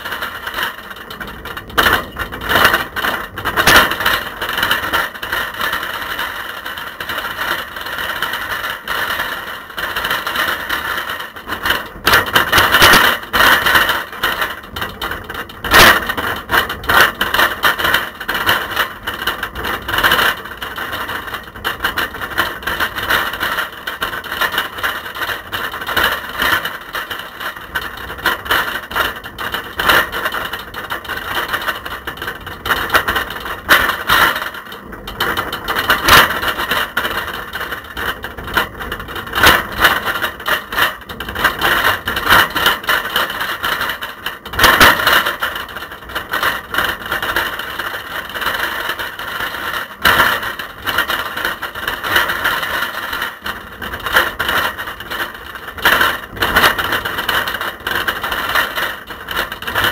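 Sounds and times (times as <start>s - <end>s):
camera rattling in bicycle basket: 0.0s - 59.9s.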